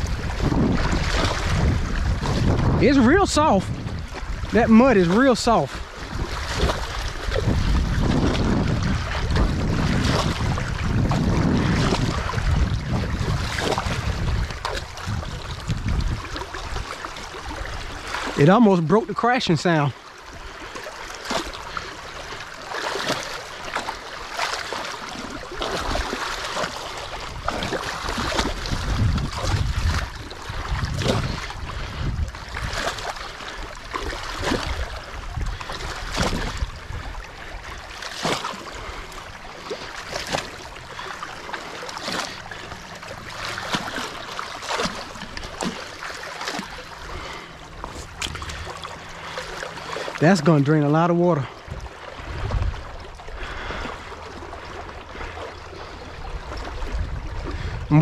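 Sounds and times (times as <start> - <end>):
muddy water rushing: 0.0 - 58.0.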